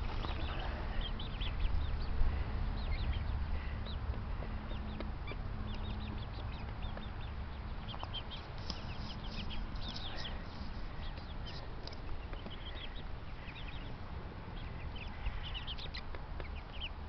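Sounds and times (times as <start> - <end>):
birds chirping and peeping: 0.0 - 17.0
steady low rumble: 0.0 - 17.0.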